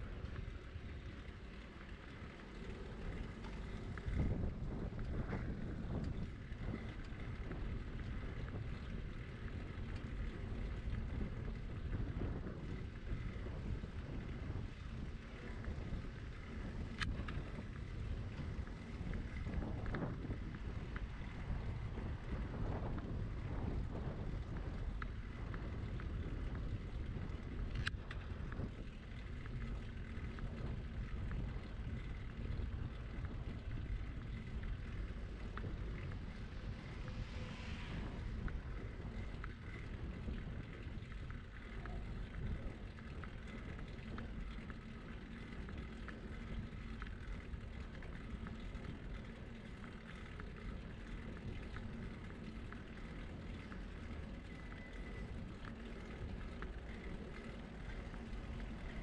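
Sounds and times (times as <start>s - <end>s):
road noise: 0.0s - 59.0s
wind on microphone: 0.0s - 59.0s.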